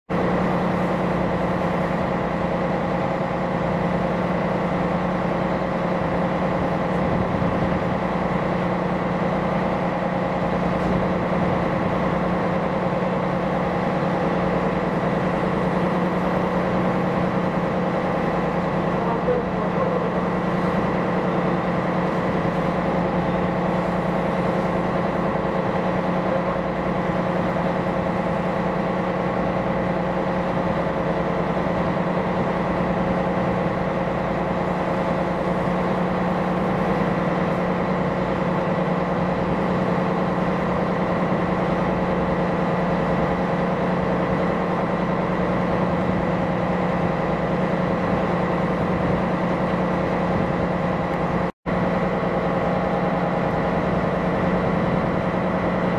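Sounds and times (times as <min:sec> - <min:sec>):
diesel engine humming: 0:00.1 - 0:55.9.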